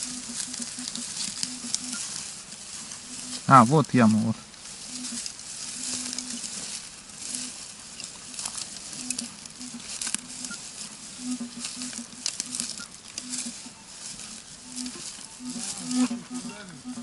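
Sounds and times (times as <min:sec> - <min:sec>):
leaves rustling against coil: 0:00.0 - 0:17.0
metal detector beeping: 0:00.0 - 0:17.0.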